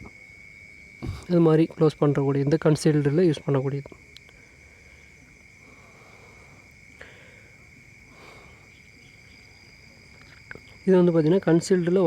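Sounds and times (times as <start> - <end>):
faint crickets chirring: 0.0 - 12.0.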